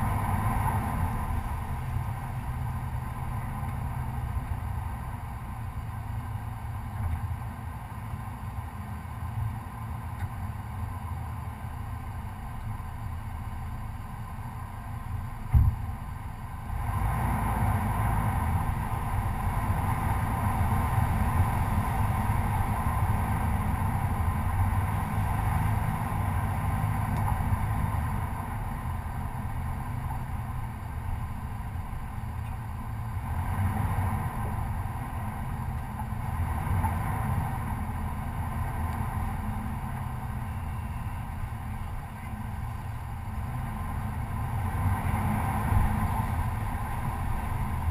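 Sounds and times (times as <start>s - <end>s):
pickup truck engine rumbling: 0.0s - 47.9s.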